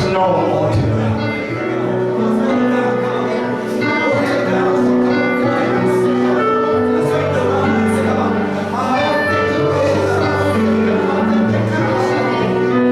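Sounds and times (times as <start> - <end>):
church music sustained chords: 0.0 - 12.9.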